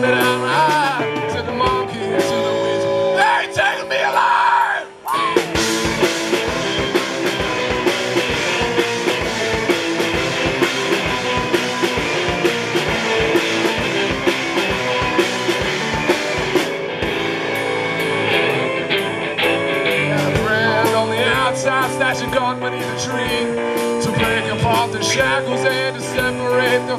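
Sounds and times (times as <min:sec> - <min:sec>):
drum kit steady beat: 0:00.0 - 0:04.2, 0:04.8 - 0:26.9
distorted electric guitars: 0:00.0 - 0:26.9
rock band playing: 0:00.0 - 0:26.9.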